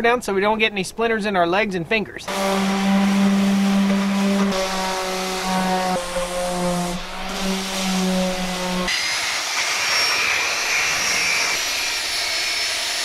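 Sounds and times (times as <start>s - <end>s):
electric sander on wood: 2.3s - 13.0s.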